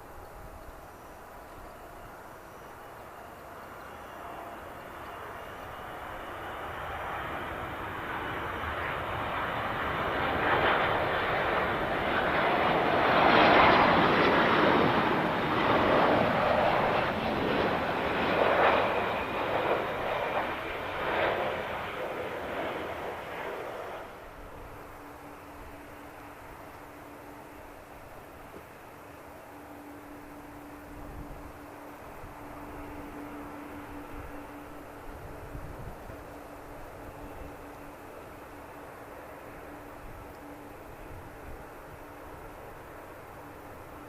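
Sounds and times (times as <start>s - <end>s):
airliner engines roaring: 0.0s - 44.0s.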